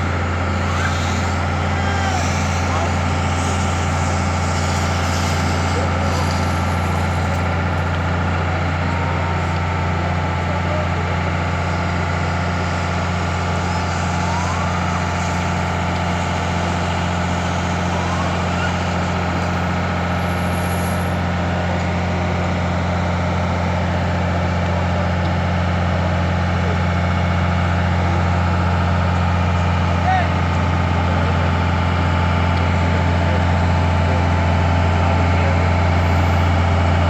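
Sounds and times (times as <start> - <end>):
vehicle engine droning: 0.0 - 37.0.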